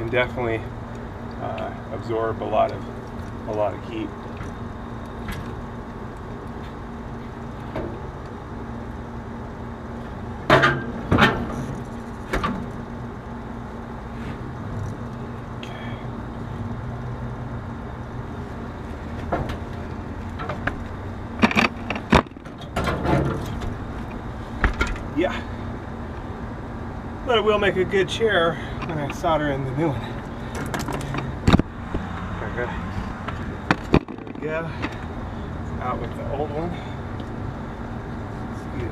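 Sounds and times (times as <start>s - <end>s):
low hum: 0.0s - 38.9s.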